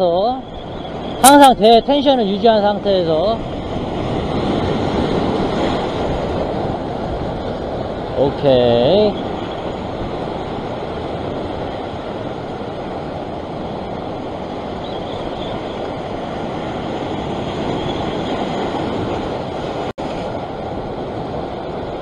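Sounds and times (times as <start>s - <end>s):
ocean surf washing over rocks: 0.0s - 22.0s.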